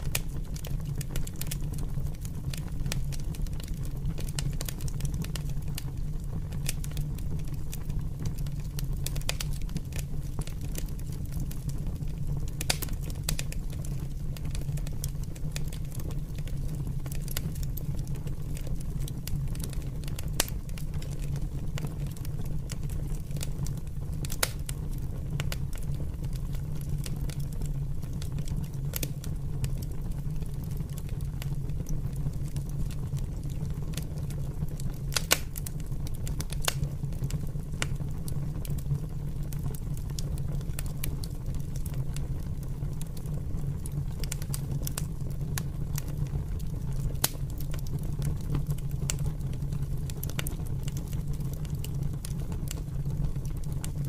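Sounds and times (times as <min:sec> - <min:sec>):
fire crackling and popping: 0:00.0 - 0:54.0
fire low rumble: 0:00.0 - 0:54.0.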